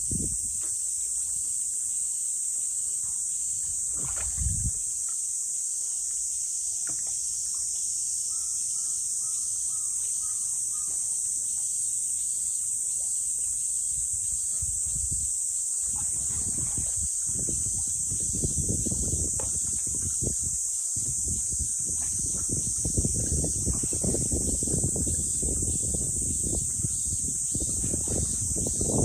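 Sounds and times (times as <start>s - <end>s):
cicada chorus: 0.0s - 29.0s.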